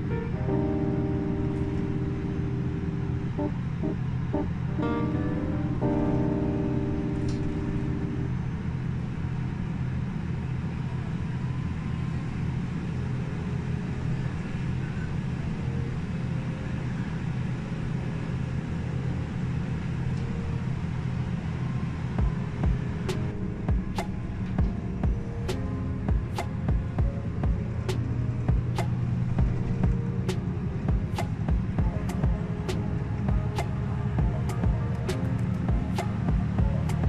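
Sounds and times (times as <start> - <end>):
bus engine drone: 0.0 - 37.0
road noise: 0.0 - 37.0.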